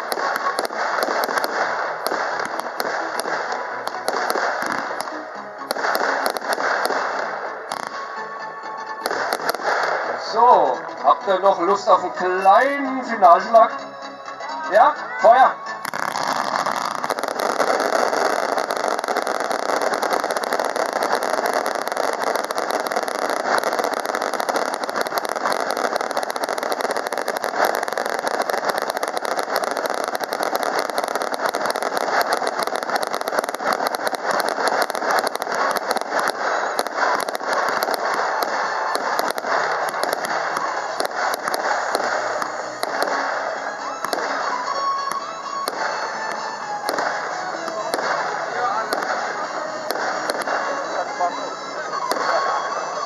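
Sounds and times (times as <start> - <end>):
single firework bangs: 0.0 - 8.0, 15.8 - 50.7
fireworks crackling barrage: 0.0 - 53.0.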